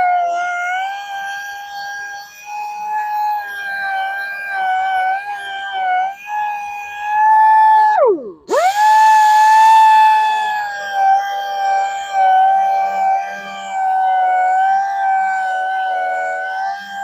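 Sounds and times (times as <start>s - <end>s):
rotary power tool whining: 3.2s - 17.0s.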